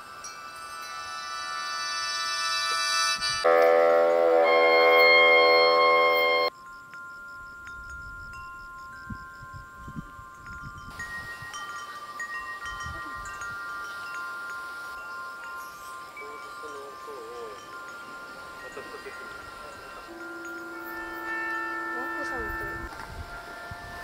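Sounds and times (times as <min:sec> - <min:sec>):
chimes ringing: 0:00.0 - 0:03.4, 0:04.4 - 0:24.0.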